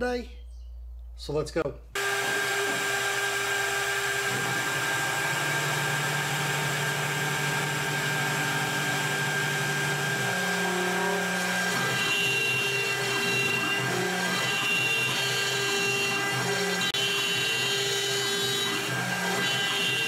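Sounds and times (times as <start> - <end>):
router spindle whine: 2.0 - 20.0.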